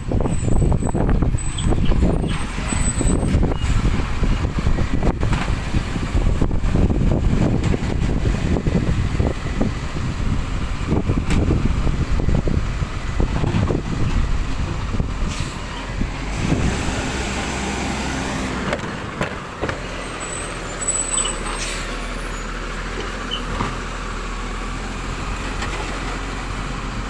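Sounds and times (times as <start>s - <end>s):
truck diesel engine running: 0.0s - 27.0s.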